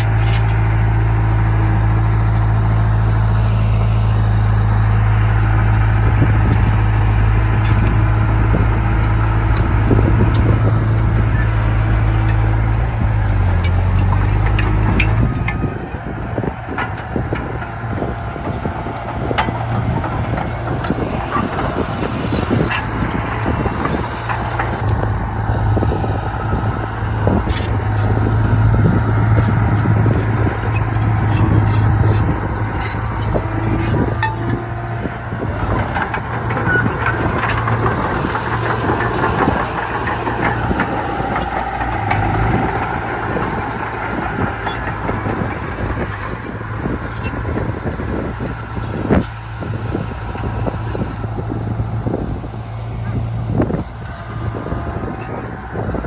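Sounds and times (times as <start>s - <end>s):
metallic squeaks and clanks: 0.0s - 0.7s, 4.6s - 50.0s
heavy machinery diesel engine: 0.0s - 56.0s.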